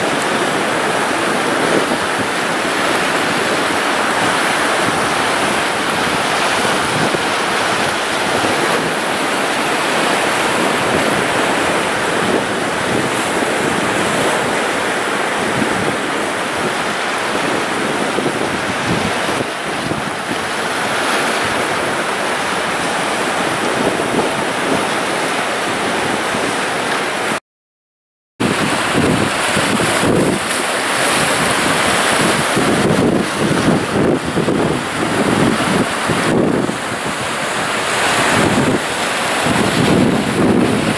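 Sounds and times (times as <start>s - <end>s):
waves washing on rocks: 0.0s - 27.4s, 28.4s - 40.9s.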